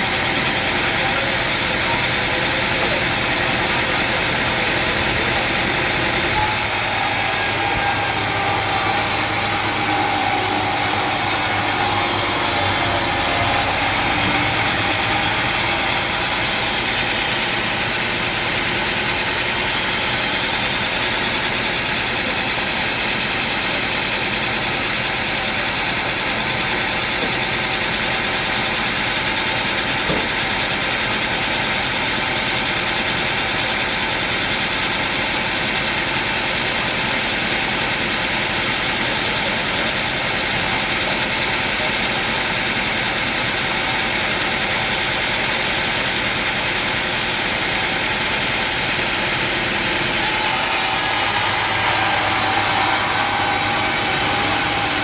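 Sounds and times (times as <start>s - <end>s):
sawmill machinery engine running: 0.0s - 55.0s.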